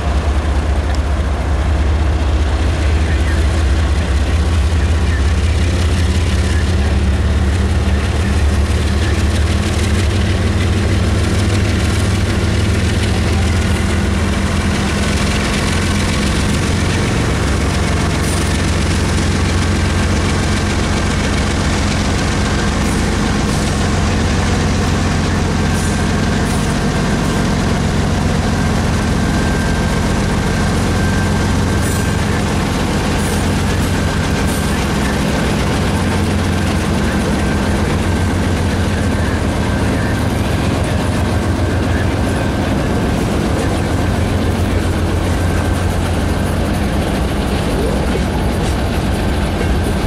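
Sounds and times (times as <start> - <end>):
freight locomotives rumbling past: 0.0 - 50.0.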